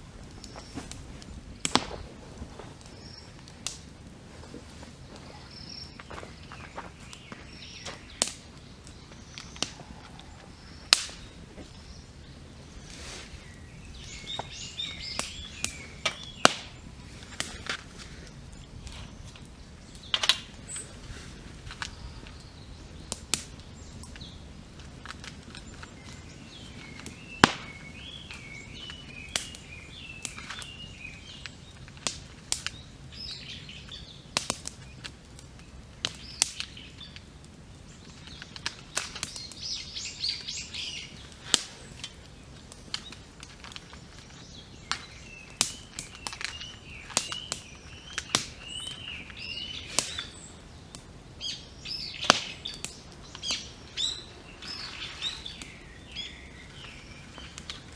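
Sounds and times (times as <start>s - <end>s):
campfire crackling and popping: 0.0s - 57.9s
small birds singing: 0.0s - 57.9s.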